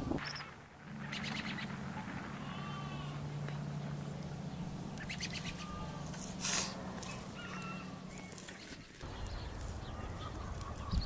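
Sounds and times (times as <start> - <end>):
birds calling: 0.0 - 11.0
low steady hum: 0.0 - 11.0.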